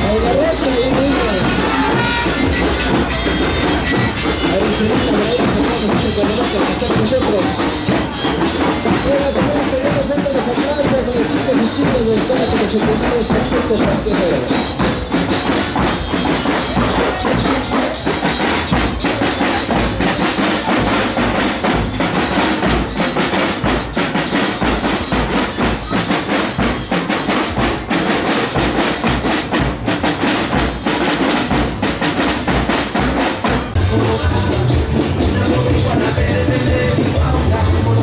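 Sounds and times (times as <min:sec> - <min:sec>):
marching snare and bass drums: 0:00.0 - 0:38.0.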